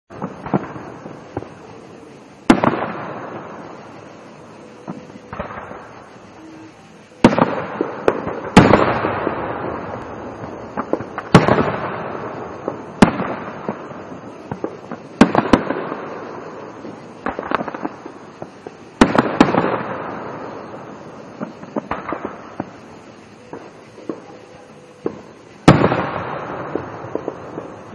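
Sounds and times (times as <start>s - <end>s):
fireworks pops and crackles: 0.1s - 27.9s
fireworks shells bursting: 0.1s - 27.9s.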